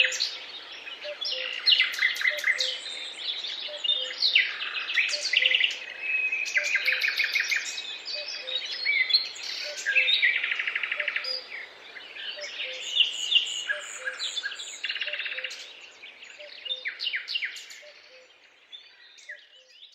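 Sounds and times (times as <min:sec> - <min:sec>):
songbirds singing: 0:00.0 - 0:19.9.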